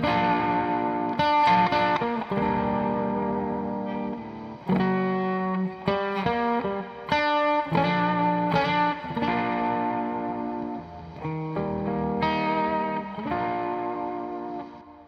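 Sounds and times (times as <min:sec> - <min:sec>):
electric guitar chords ringing: 0:00.0 - 0:15.0.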